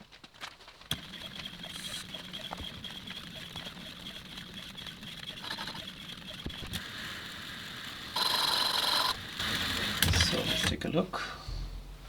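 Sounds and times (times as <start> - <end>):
metal lathe whine and hum: 0.9 - 11.2.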